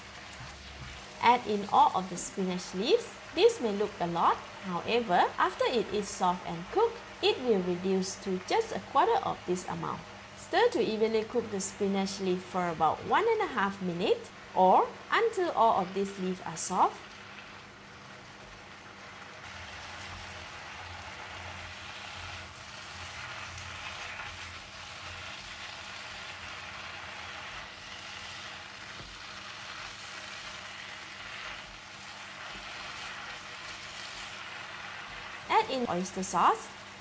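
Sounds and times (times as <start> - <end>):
food sizzling in frying pan: 0.0 - 37.0.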